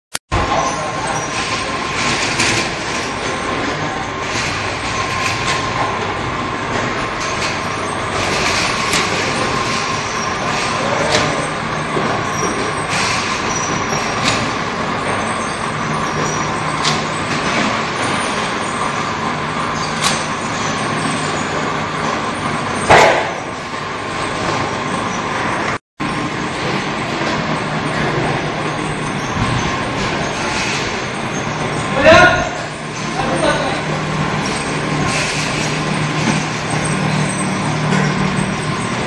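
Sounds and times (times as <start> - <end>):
labeling machine whirring: 0.8 - 39.0.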